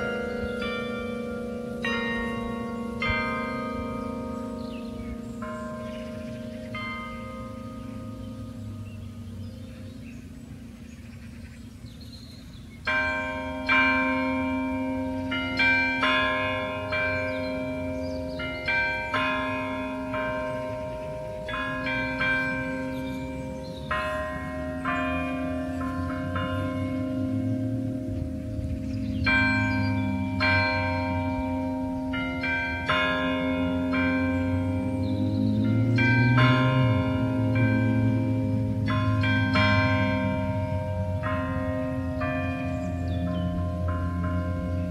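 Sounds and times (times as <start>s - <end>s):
carillon bells playing melody: 0.0s - 10.9s, 11.9s - 44.9s.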